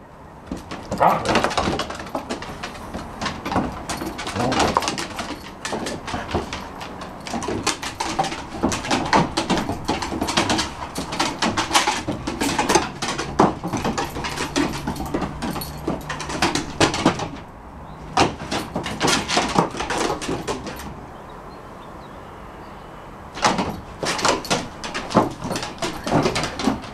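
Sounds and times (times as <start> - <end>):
dog claws scrabbling on wooden boards: 0.4 - 21.0, 23.4 - 26.9.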